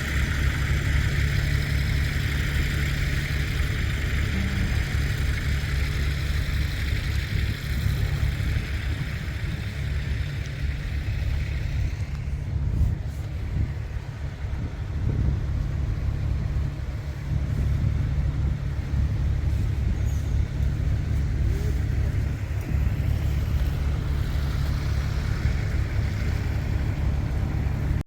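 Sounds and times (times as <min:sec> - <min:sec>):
harvester engine droning: 0:00.0 - 0:28.0.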